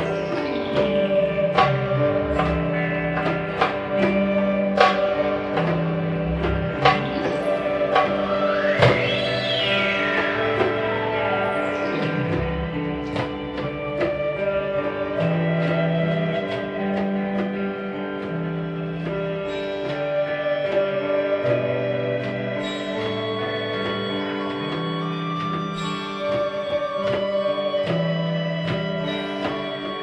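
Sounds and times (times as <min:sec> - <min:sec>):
plucked guitar notes: 0:00.0 - 0:30.0
steady held drone: 0:00.0 - 0:30.0
sweeping pitch glide: 0:00.0 - 0:30.0.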